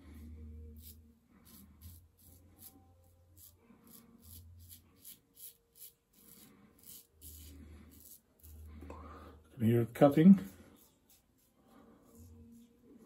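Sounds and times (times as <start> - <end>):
razor scraping stubble: 0.7 - 8.9, 10.0 - 12.7.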